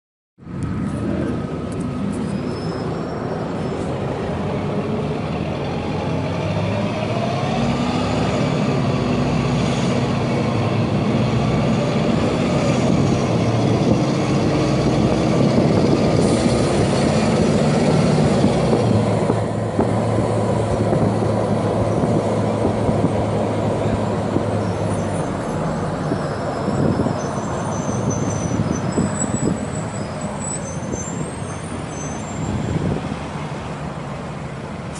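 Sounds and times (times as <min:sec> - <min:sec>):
bus diesel engine running: 0:00.4 - 0:34.9.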